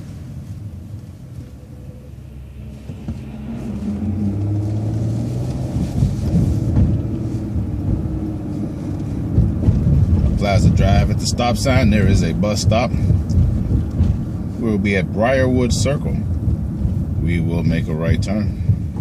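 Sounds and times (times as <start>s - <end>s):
road rumble: 0.0s - 19.0s
vehicle engine from inside cabin: 0.0s - 19.0s.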